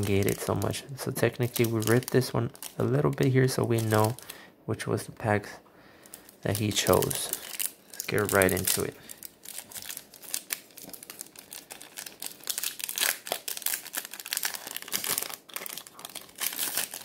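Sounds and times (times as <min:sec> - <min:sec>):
foil wrapper crinkling and tearing: 0:00.0 - 0:04.4, 0:06.0 - 0:17.0.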